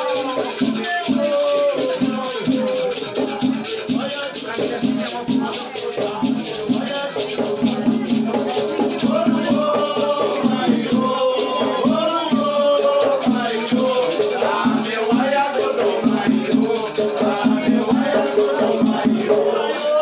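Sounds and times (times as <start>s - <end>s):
drumming: 0.0s - 20.0s
rattling shakers: 0.0s - 20.0s
voices singing: 0.0s - 20.0s.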